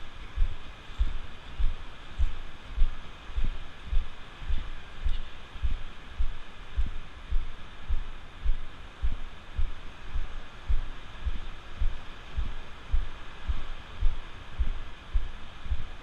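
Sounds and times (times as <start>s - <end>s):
footsteps on wet sand: 0.0s - 15.9s
faint surf hiss: 0.0s - 16.0s.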